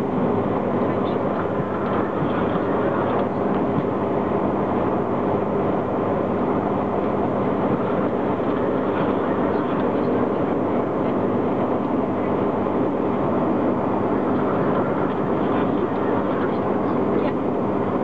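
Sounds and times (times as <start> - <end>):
low constant hum: 0.0 - 18.0.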